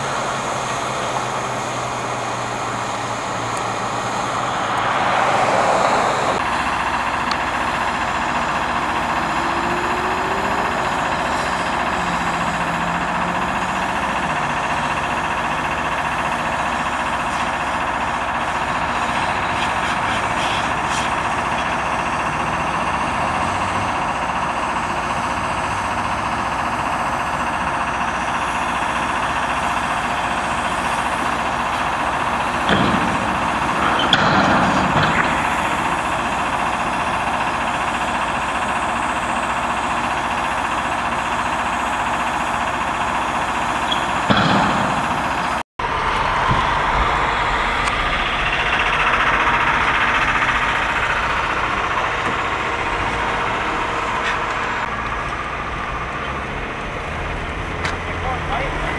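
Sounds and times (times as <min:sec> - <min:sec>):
vacuum truck blower rushing: 0:00.0 - 0:55.4.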